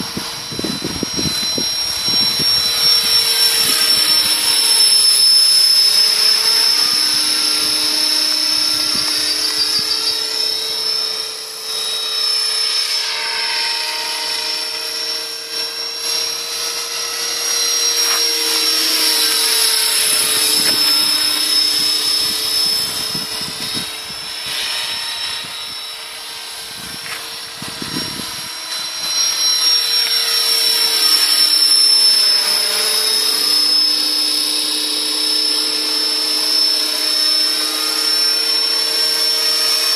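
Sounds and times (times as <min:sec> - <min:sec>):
model helicopter rotor whine: 0:00.0 - 0:39.9.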